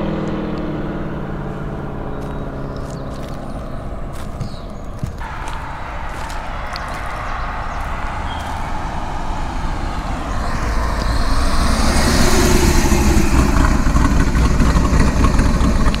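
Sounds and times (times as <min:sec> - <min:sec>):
car accelerating hard: 0:00.0 - 0:16.0.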